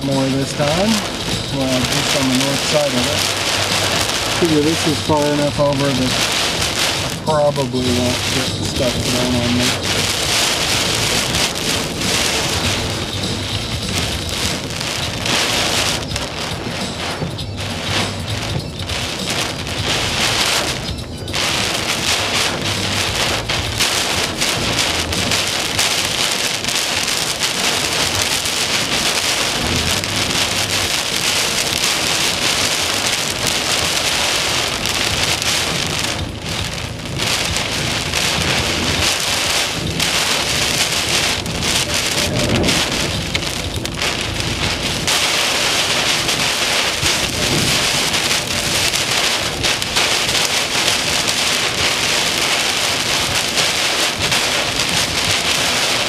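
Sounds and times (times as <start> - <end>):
heavy rain pelting a truck: 0.0 - 56.0.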